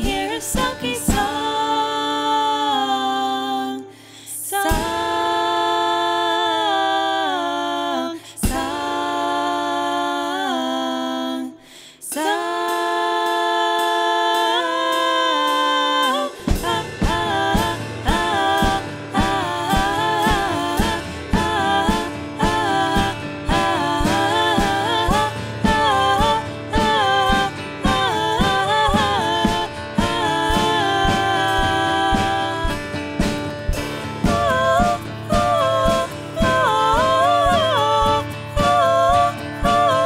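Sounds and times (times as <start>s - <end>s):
woman singing wordlessly: 0.0s - 40.0s.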